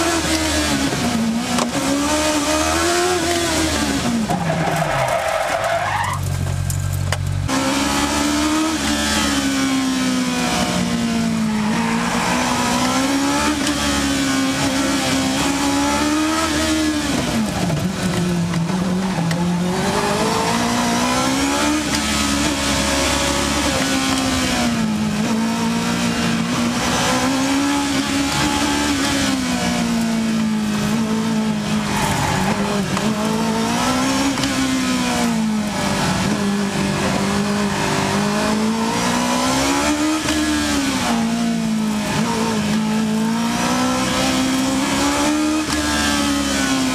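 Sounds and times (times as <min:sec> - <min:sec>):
motorcycle engine revving: 0:07.5 - 0:46.9.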